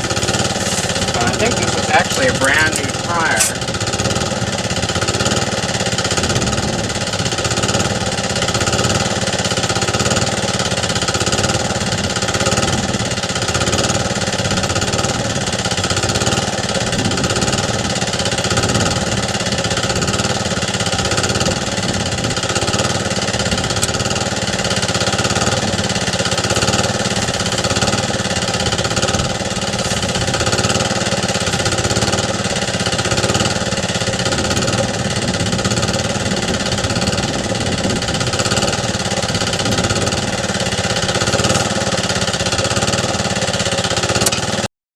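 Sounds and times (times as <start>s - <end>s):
air compressor pumping: 0.0s - 44.6s
gasoline engine running: 0.0s - 44.7s.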